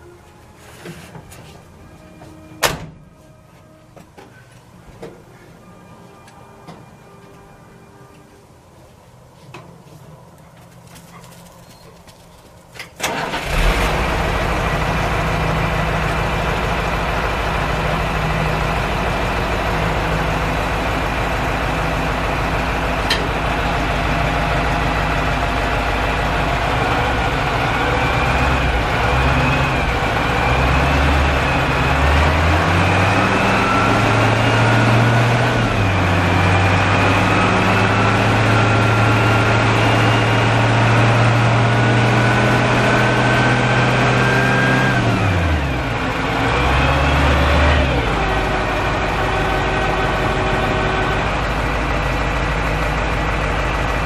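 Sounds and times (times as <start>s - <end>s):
truck engine starting and idling: 0.0s - 8.1s, 12.0s - 54.0s.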